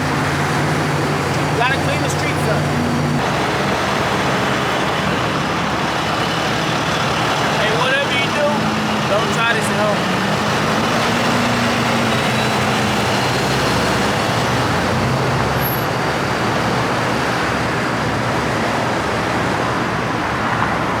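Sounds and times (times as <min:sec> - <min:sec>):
road noise: 0:00.0 - 0:21.0
vehicle engine hum: 0:00.0 - 0:21.0.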